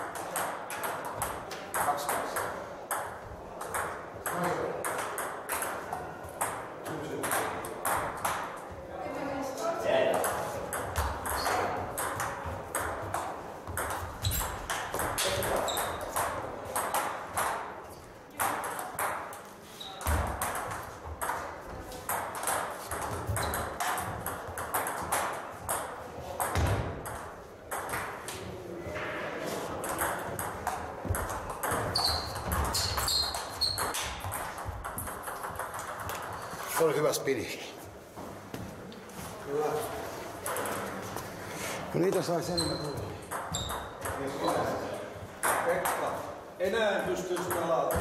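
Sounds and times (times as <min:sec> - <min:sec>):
table tennis balls clicking: 0:00.0 - 0:08.7, 0:10.1 - 0:28.6, 0:29.7 - 0:37.0, 0:40.3 - 0:41.1, 0:42.0 - 0:46.2, 0:47.1 - 0:48.0.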